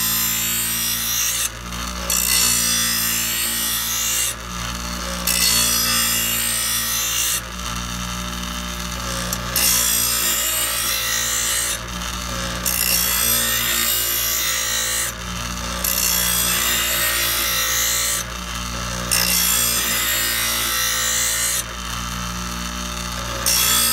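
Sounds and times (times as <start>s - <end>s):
bench grinder motor humming: 0.0s - 23.9s.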